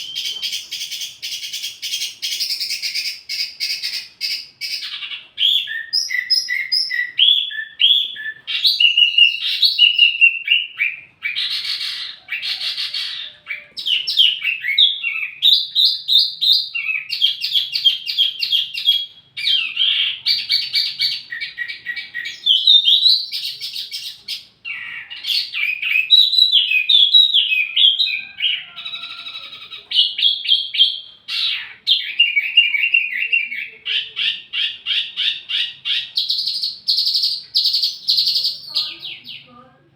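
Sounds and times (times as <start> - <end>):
songbird singing chirps and trills: 0.0 - 39.9.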